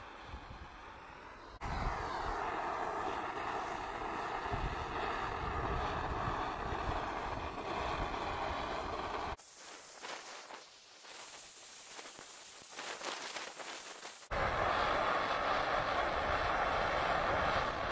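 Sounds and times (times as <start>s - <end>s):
gas torch hissing: 0.0s - 17.9s.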